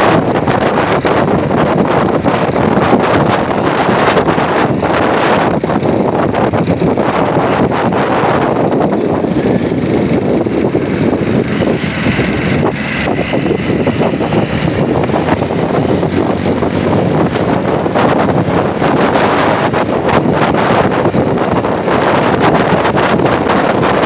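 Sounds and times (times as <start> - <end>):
vehicle engine rumbling: 0.0 - 24.0
wind buffeting microphone: 0.0 - 24.0.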